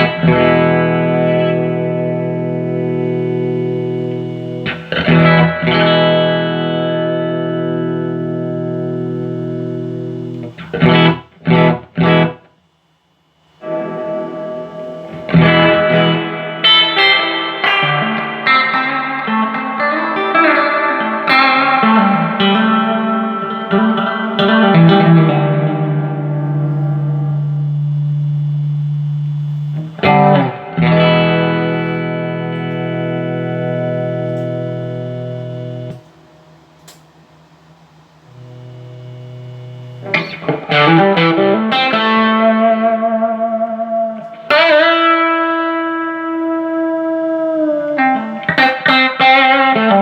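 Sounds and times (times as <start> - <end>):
electric guitar through amp: 0.0 - 50.0.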